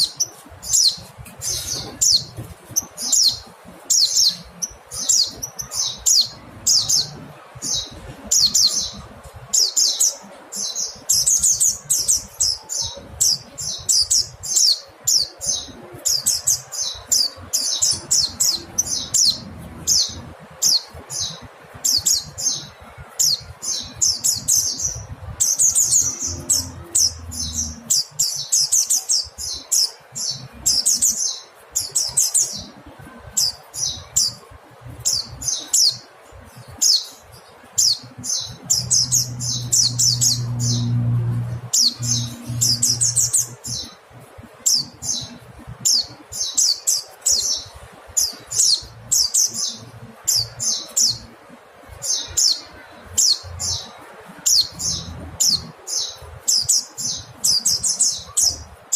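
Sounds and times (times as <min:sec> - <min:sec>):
bird chirping high: 0:00.0 - 0:51.4, 0:52.0 - 0:58.9.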